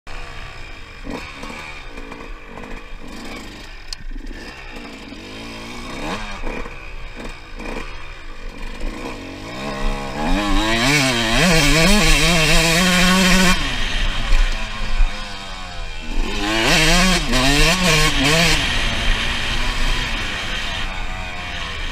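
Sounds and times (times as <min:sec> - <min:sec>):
dirt bike engine revving: 0:00.1 - 0:21.9.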